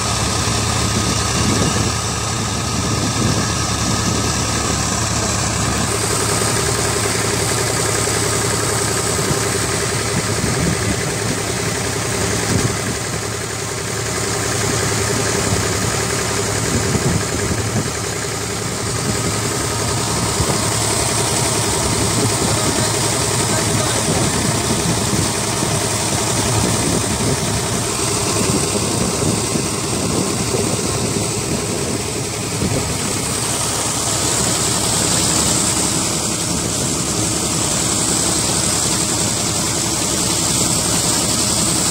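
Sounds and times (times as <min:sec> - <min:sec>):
engine droning: 0:00.0 - 0:41.9.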